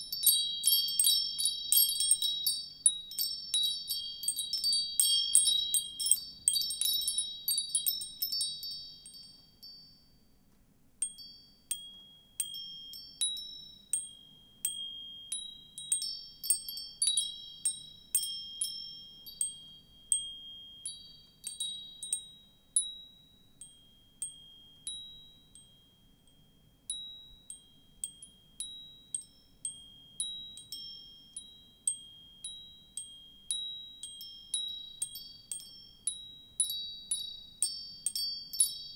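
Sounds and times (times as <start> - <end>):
wind chimes ringing: 0.0 - 10.1, 11.0 - 22.9, 23.6 - 38.9.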